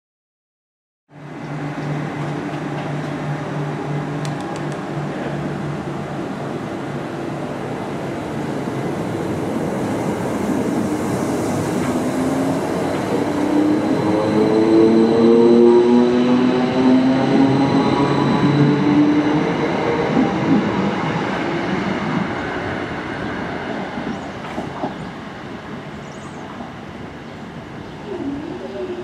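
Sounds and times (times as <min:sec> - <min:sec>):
electric train humming: 0:01.1 - 0:29.0.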